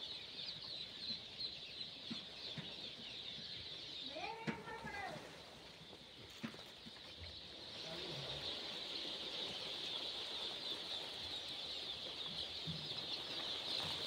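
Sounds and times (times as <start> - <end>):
chicks peeping in chorus: 0.0 - 14.0.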